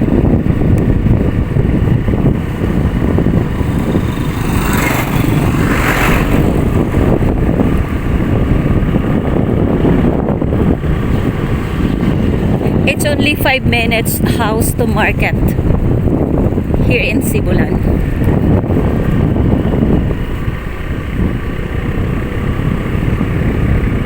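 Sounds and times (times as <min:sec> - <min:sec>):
road and wind noise: 0:00.0 - 0:24.0
vehicle engine running: 0:00.0 - 0:24.0.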